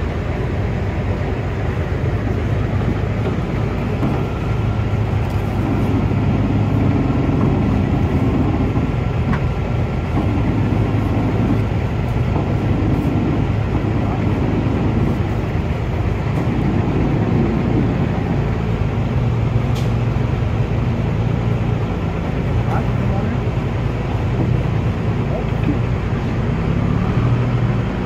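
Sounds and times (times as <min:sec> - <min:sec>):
heavy machine engine humming: 0:00.0 - 0:28.0.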